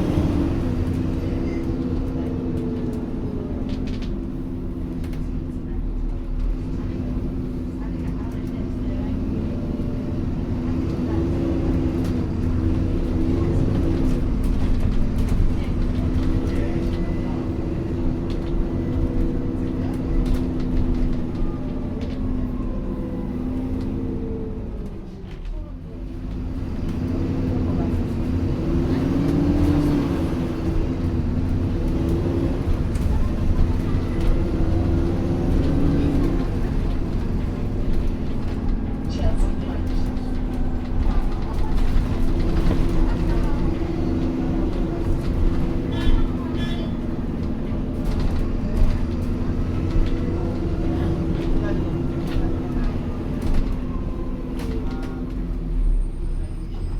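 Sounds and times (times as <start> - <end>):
bus engine rumble and whine: 0.0 - 56.9.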